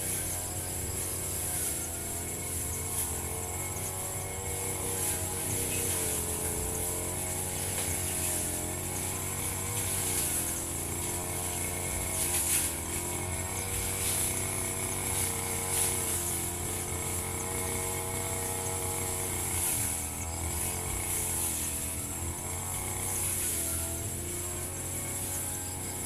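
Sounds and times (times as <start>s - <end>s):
brush cutter cutting grass: 0.0s - 26.0s.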